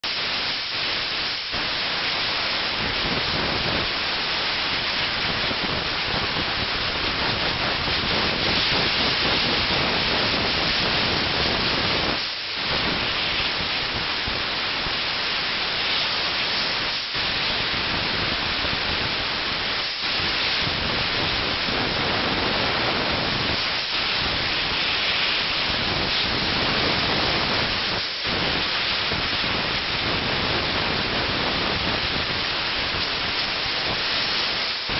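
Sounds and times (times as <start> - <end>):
steam nozzle hissing: 0.0 - 34.9.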